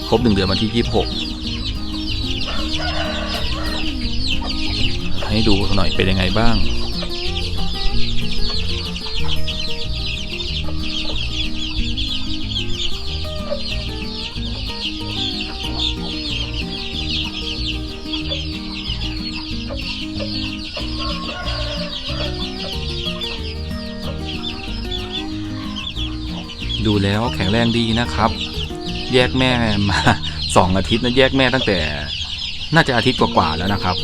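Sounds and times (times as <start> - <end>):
background music with low notes: 0.0 - 34.0
chicks peeping: 0.0 - 34.0.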